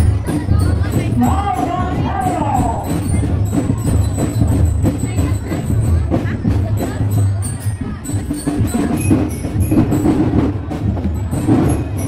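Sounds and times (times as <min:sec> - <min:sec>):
snare drums: 0:00.0 - 0:12.0.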